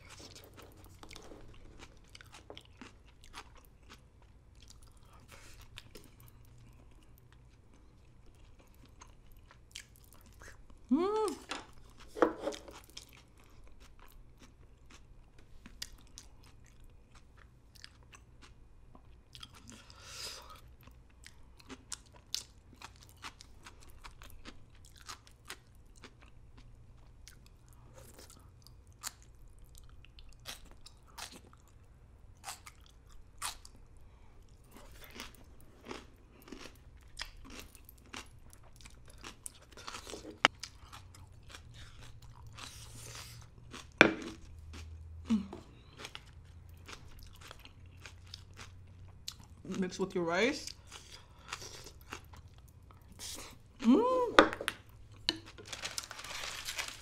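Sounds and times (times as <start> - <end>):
chewing crunchy vegetables: 0.0 - 10.8, 11.5 - 31.8, 32.4 - 54.1.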